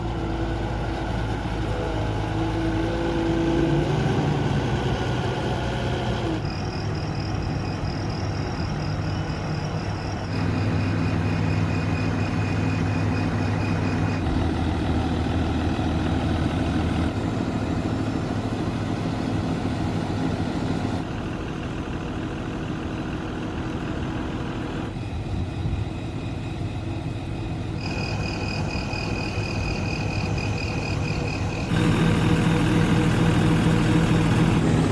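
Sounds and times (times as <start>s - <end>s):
forklift diesel engine running: 0.0s - 34.9s.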